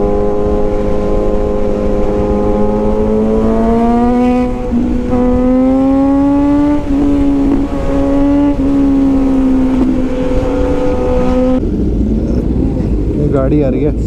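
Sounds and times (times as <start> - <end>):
motorcycle engine at high revs: 0.0 - 12.4.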